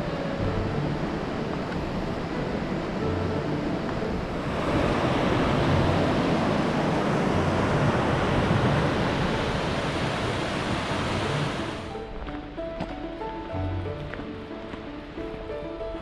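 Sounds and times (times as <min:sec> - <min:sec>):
faint soft music: 0:00.0 - 0:16.0
mountain stream rushing: 0:00.0 - 0:16.0.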